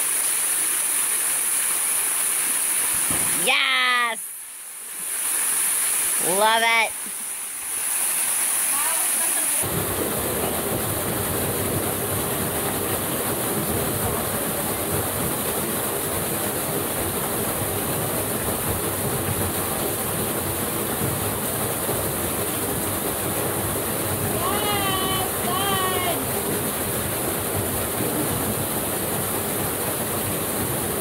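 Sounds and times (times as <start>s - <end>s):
waterfall rushing: 0.0s - 4.4s, 5.0s - 31.0s.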